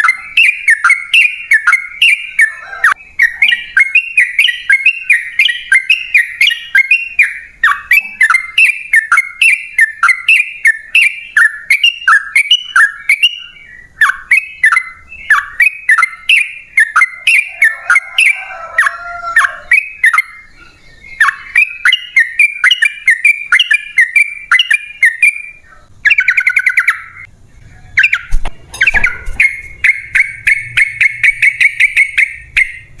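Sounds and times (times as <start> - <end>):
bird singing chattering notes: 0.0 - 33.0.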